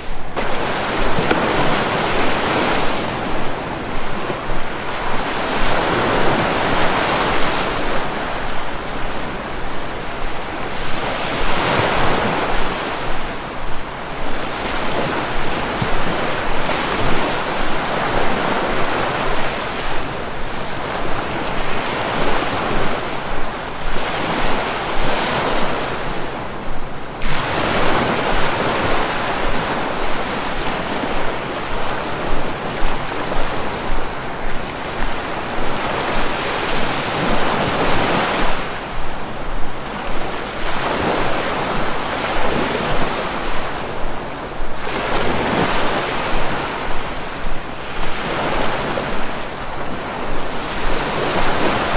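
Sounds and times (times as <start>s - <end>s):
sea waves breaking: 0.0s - 51.9s.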